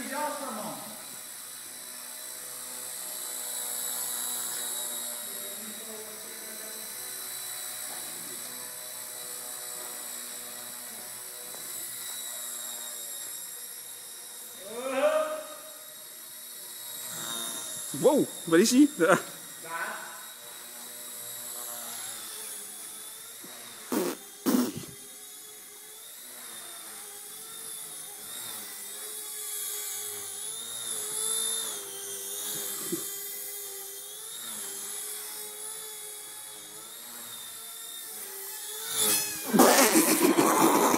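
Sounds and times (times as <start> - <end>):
rc helicopter motor whine: 0.0 - 40.9.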